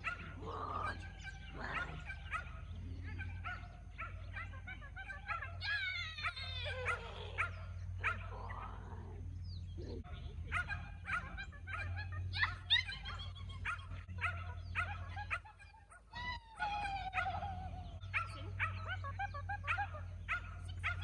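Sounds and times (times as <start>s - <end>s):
small dog yipping and barking: 0.0s - 8.8s, 10.4s - 21.0s.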